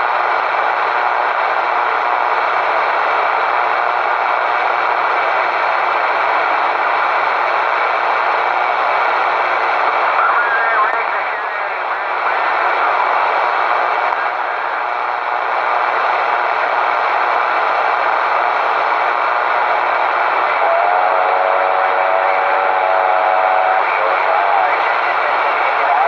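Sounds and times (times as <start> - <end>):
radio static hissing: 0.0 - 26.0.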